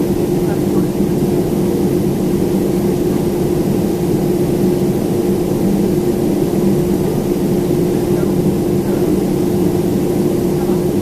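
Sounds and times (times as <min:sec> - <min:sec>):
jet engine drone in cabin: 0:00.0 - 0:11.0.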